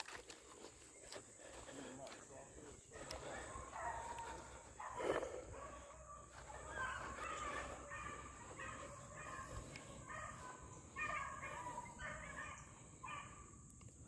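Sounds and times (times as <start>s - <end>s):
distant hounds baying: 0.3s - 14.0s.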